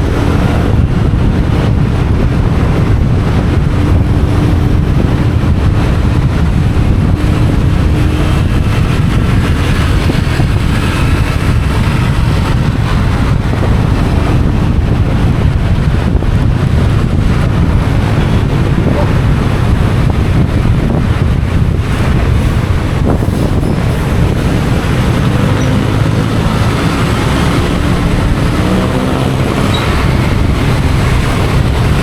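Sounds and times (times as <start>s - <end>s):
motorcycle engine running: 0.0s - 32.0s
road noise: 0.0s - 32.0s
wind buffeting microphone: 0.0s - 32.0s.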